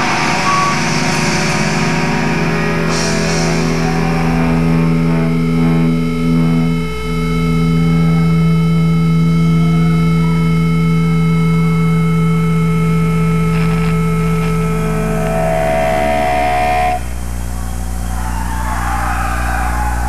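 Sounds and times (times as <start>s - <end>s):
amplified rock band drone: 0.0s - 20.0s.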